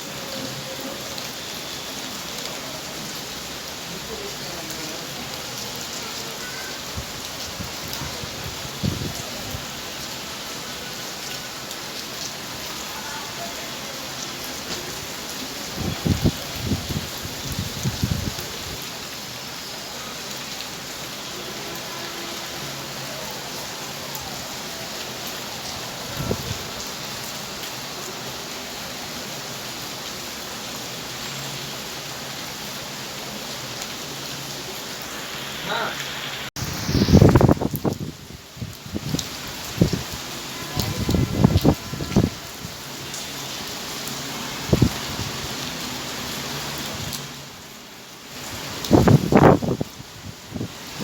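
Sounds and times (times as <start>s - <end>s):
heavy rain hissing: 0.0s - 51.0s.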